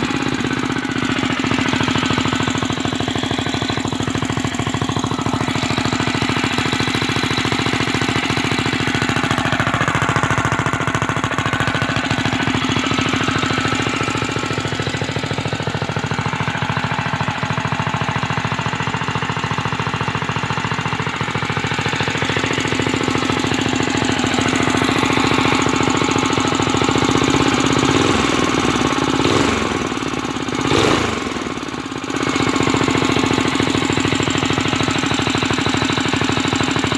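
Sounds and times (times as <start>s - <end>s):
small engine chugging: 0.0s - 36.9s.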